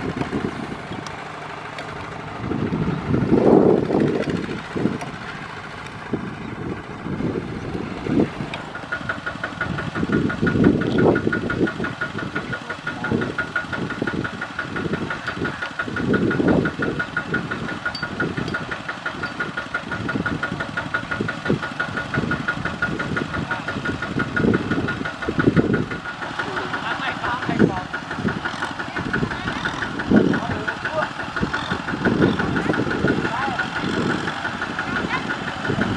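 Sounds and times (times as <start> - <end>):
diesel engine uneven rumble: 0.0 - 35.9
single-cylinder diesel idling: 0.0 - 35.9.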